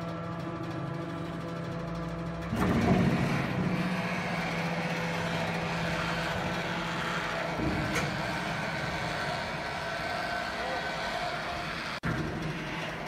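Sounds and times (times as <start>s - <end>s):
crane hoist running: 0.0s - 13.0s.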